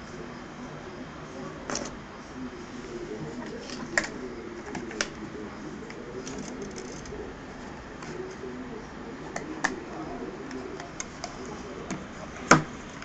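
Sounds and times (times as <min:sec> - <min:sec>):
faint murmur of voices: 0:00.0 - 0:13.0.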